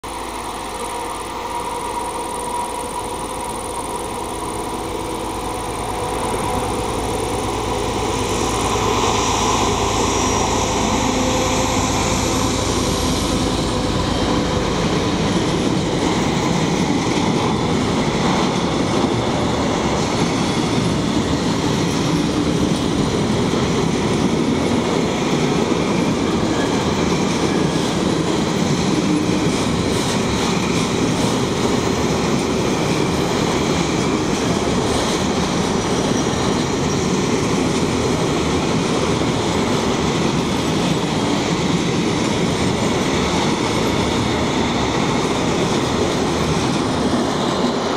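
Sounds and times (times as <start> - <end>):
train wheels clattering on rails: 0.0 - 47.9.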